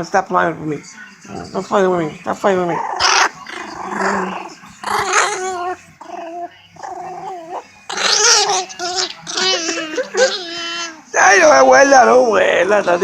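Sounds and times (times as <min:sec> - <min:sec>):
dog growling: 0:01.2 - 0:01.9, 0:02.5 - 0:13.0.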